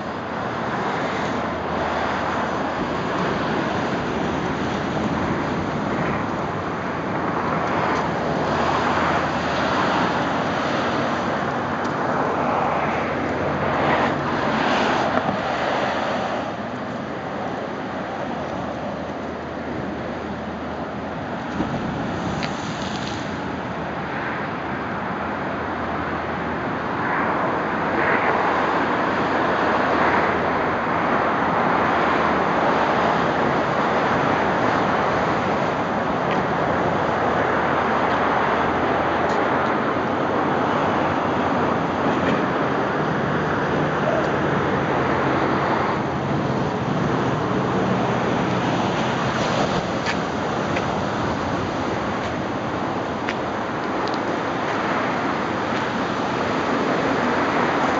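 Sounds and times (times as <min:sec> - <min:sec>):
ocean surf washing onto beach: 0:00.0 - 0:25.2, 0:26.9 - 0:57.9.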